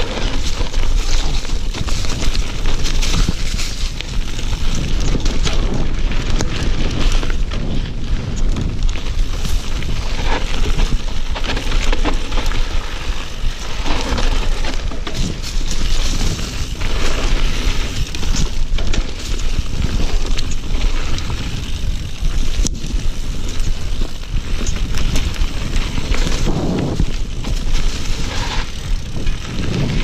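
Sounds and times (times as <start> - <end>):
bike rattles and knocks: 0.0 - 30.0
bike tyres on dirt and leaves: 0.0 - 30.0
wind rumble on microphone: 0.0 - 30.0.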